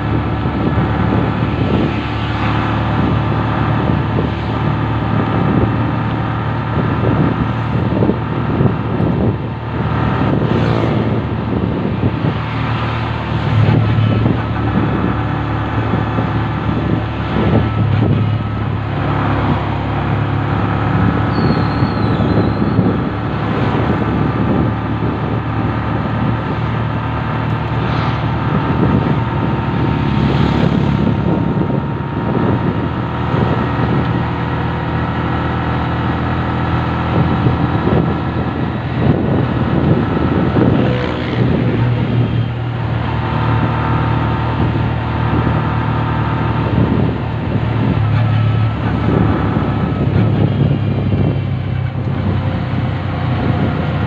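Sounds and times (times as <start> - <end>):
road and wind noise: 0.0 - 54.0
vehicle engine hum: 0.0 - 54.0.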